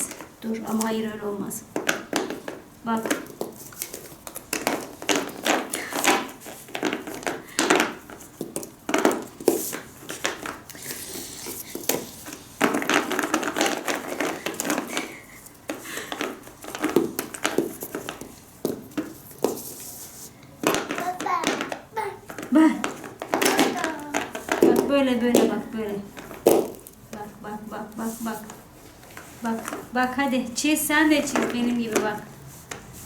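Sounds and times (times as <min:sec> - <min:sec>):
pens clattering on a tabletop: 0:01.7 - 0:19.9, 0:20.5 - 0:27.2, 0:28.4 - 0:30.0, 0:31.1 - 0:32.9.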